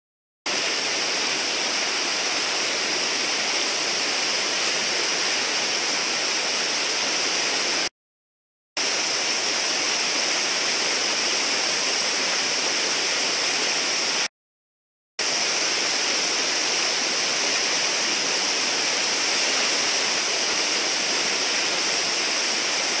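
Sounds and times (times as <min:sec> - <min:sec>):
whitewater rushing over ledge: 0:00.5 - 0:07.9, 0:08.8 - 0:14.3, 0:15.2 - 0:23.0.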